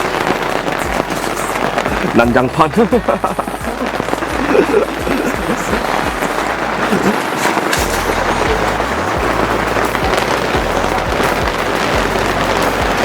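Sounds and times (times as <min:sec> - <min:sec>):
crackling popping noise: 0:00.0 - 0:13.0
pop music: 0:00.0 - 0:13.0.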